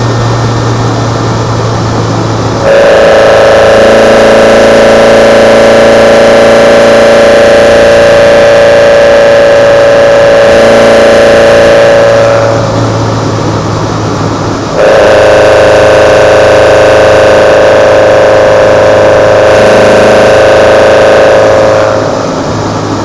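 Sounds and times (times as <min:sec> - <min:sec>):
high-pitched engine intake note: 0:00.0 - 0:23.0.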